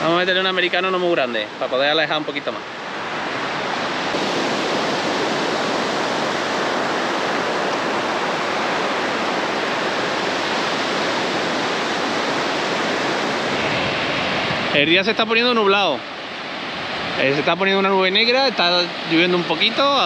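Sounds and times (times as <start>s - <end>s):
water rushing hiss: 0.0s - 20.0s.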